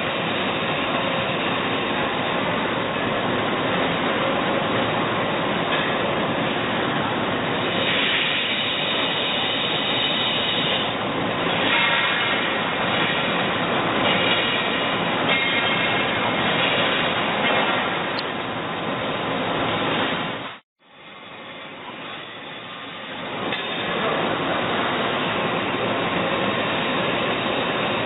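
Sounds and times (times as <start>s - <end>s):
high machine whine: 0.0s - 28.0s.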